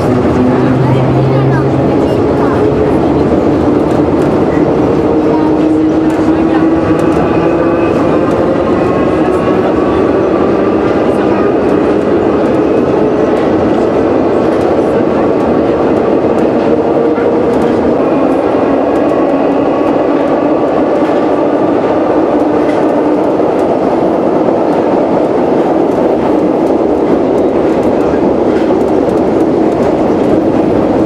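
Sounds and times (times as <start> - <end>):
metro train rolling through tunnel: 0.0 - 31.0
train whine: 0.0 - 31.0.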